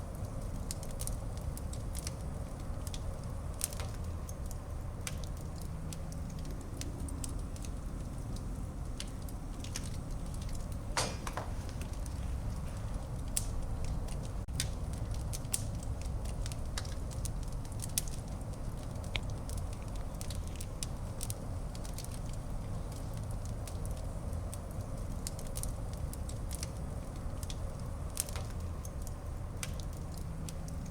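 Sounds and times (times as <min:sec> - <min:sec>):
fire crackling and popping: 0:00.0 - 0:30.9
flames rumbling: 0:00.0 - 0:30.9.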